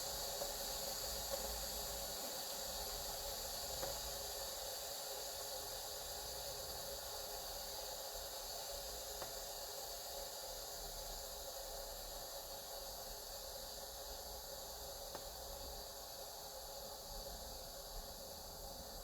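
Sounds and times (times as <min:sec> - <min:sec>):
pressure cooker steam hissing: 0:00.0 - 0:19.0.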